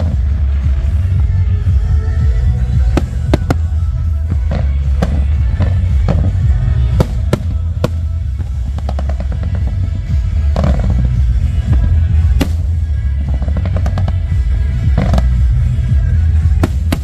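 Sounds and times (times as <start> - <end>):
fireworks bursting with sharp bangs: 0.0 - 17.0
fireworks crackling: 0.0 - 17.0
music playing: 0.0 - 17.0.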